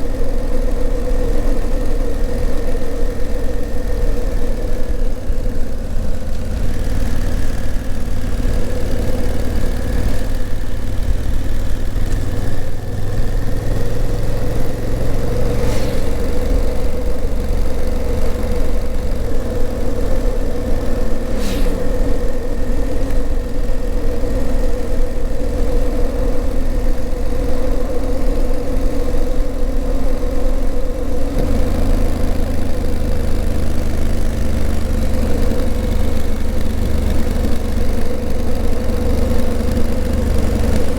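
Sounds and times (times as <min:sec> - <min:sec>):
motorcycle engine running onboard: 0:00.0 - 0:40.9.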